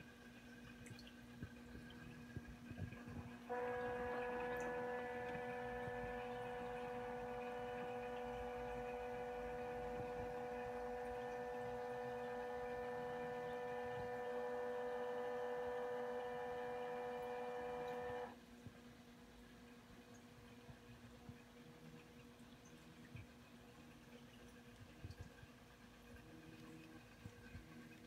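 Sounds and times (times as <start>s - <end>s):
aquarium pump humming: 0.0s - 28.0s
faint low hum: 0.0s - 28.0s.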